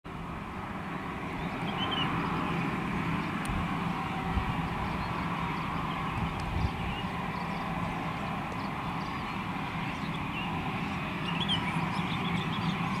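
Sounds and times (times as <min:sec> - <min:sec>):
jet engines running: 0:00.1 - 0:13.0.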